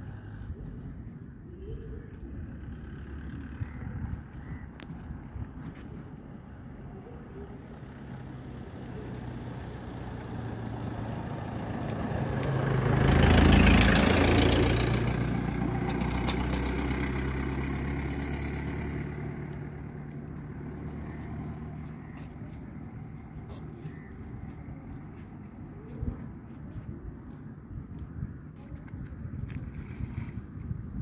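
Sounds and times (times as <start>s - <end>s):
vehicle passing by: 1.7s - 27.8s.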